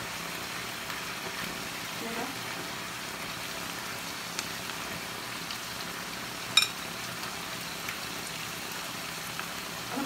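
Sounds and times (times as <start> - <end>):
meat sizzling in a tray: 0.0 - 10.0.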